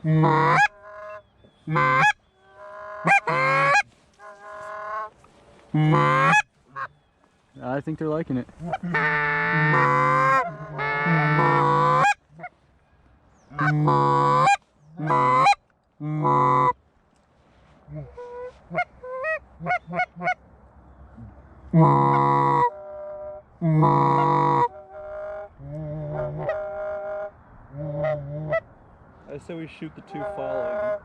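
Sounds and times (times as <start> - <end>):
goose clucking: 0.0 - 7.0, 8.4 - 12.6, 13.5 - 16.8, 17.9 - 20.4, 21.2 - 28.7, 30.1 - 31.0
goose honking: 0.0 - 7.0, 8.4 - 12.6, 13.5 - 16.8, 17.9 - 20.4, 21.7 - 28.7, 30.0 - 31.0.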